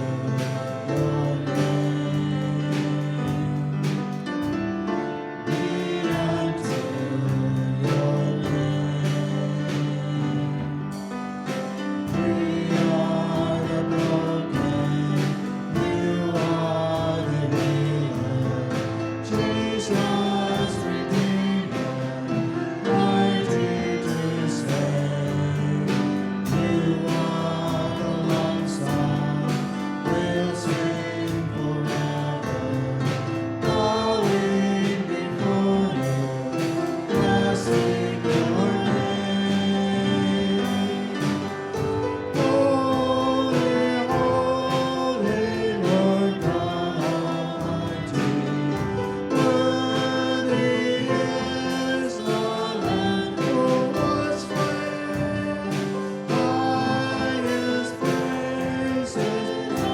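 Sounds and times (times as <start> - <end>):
congregation singing worship song: 0.0 - 59.9
instrumental accompaniment with beat: 0.0 - 59.9.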